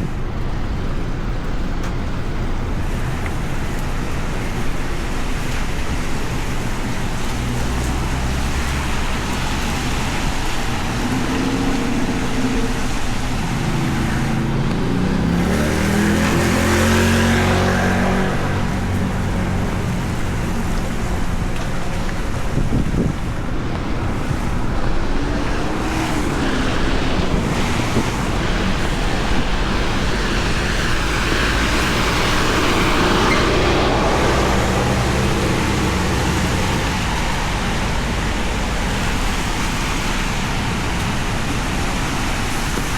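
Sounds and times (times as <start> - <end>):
cars driving on wet road: 0.0 - 42.9
heavy rain on street: 0.0 - 42.9.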